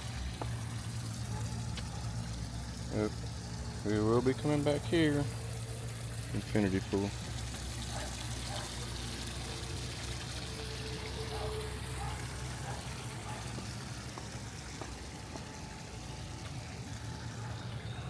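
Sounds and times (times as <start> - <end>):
water rushing in pool: 0.0 - 18.0.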